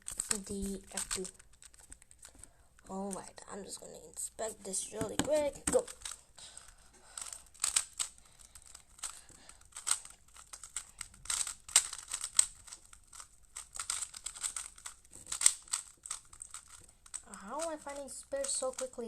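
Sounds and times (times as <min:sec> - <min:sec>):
plastic puzzle cube clicking: 0:00.0 - 0:03.6, 0:04.9 - 0:19.0.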